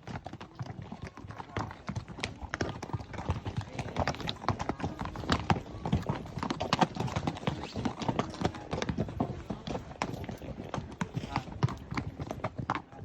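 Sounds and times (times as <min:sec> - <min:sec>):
horse hoofbeats clip-clopping: 0:00.0 - 0:13.0.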